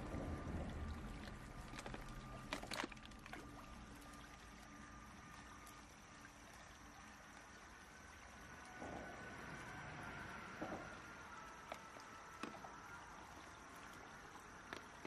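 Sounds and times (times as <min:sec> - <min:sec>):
stream trickling over rocks: 0:00.0 - 0:15.0.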